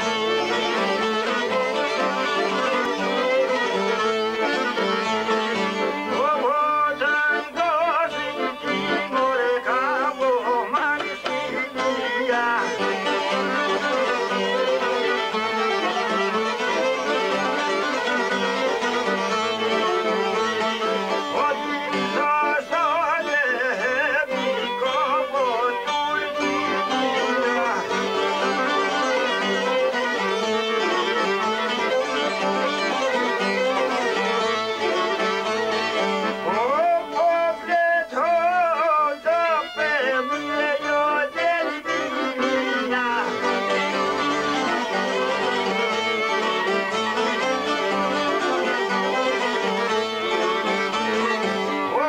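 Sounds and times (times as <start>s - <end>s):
plucked and strummed lutes: 0.0s - 52.0s
violin ornamented melody: 0.0s - 52.0s.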